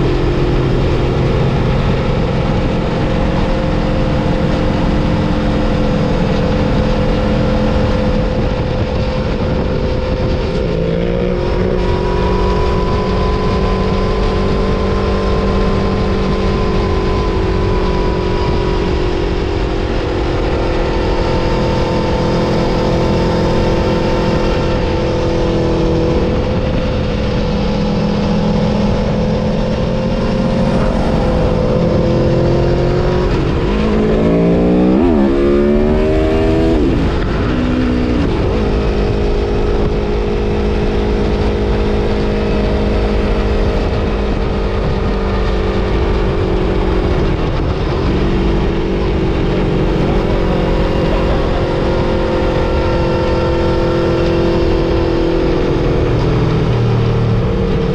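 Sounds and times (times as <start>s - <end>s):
motorcycle engine running hard: 0.0s - 57.9s
wind rushing: 0.0s - 57.9s.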